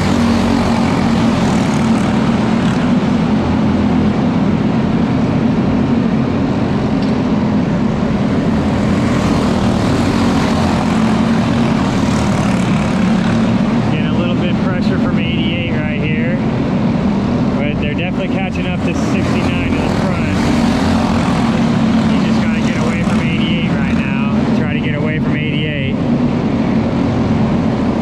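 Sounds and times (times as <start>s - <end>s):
kart engines droning: 0.0s - 28.0s.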